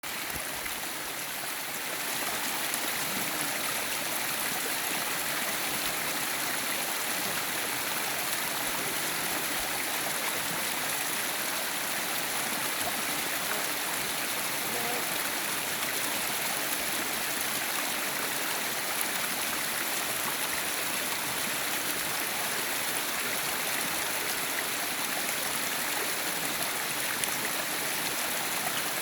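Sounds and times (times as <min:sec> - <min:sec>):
stream water flowing: 0:00.0 - 0:29.0.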